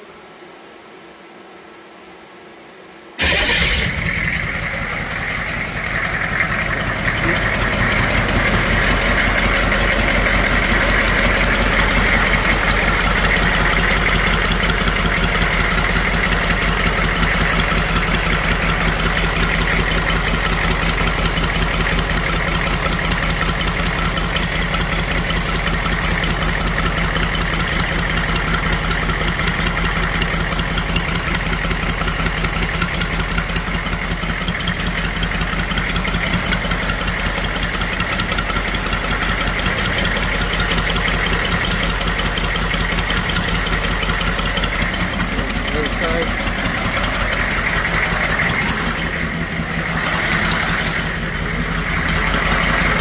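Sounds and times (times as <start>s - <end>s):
diesel engine idling with knock: 3.2s - 53.0s.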